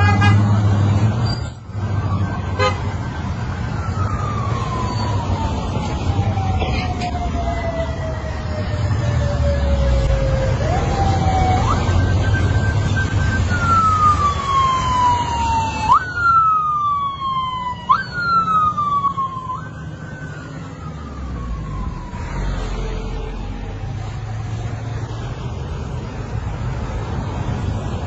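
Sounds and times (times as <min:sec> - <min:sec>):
engines and road noise: 0:00.0 - 0:28.0
siren wailing: 0:01.8 - 0:24.8.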